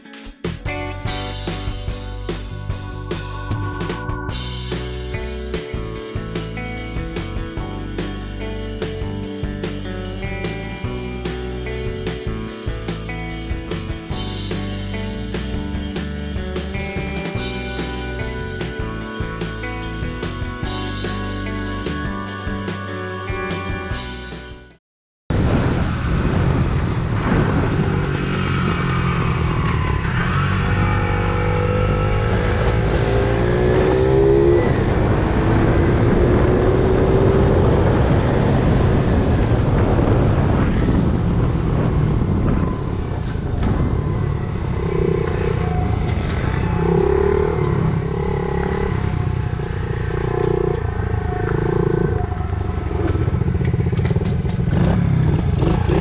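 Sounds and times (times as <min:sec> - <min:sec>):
small motorbike engine accelerating: 0:01.0 - 0:24.4, 0:25.7 - 0:56.0.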